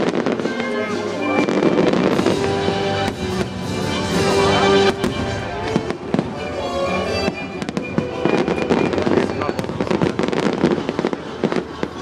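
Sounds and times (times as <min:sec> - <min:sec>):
fireworks bangs and crackles: 0:00.0 - 0:12.0
music over loudspeakers: 0:00.0 - 0:12.0.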